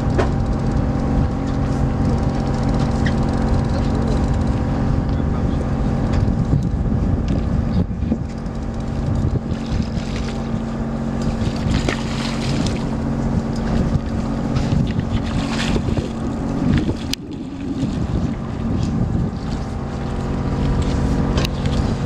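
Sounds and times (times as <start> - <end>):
boat engine droning: 0.0 - 22.0
water around hull: 0.0 - 22.0
wind buffeting microphone: 0.0 - 22.0.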